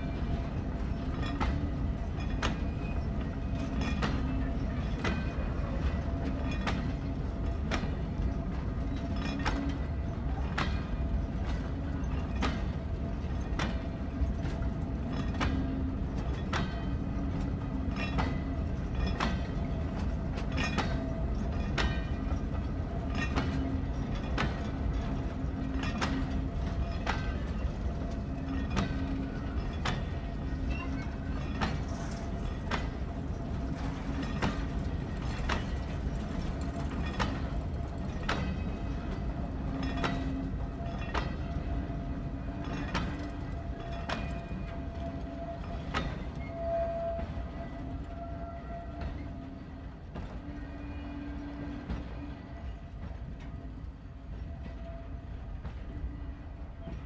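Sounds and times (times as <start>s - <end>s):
freight wagons rumbling: 0.0s - 57.0s
wheels clicking over rail joints: 0.0s - 57.0s.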